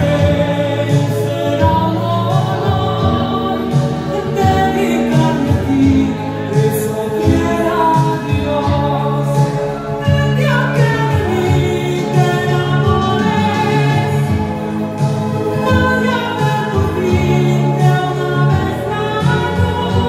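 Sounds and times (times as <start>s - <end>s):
song over loudspeaker: 0.0s - 20.0s.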